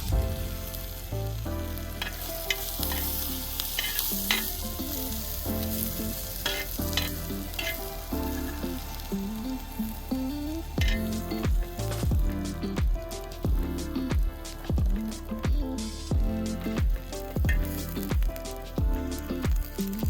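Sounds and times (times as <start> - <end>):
food sizzling in a pan: 0.0 - 20.0
sharp crackles: 0.0 - 20.0.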